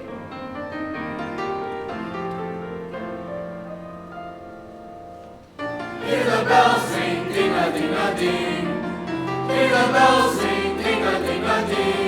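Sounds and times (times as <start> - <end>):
piano playing held chords: 0.0 - 12.0.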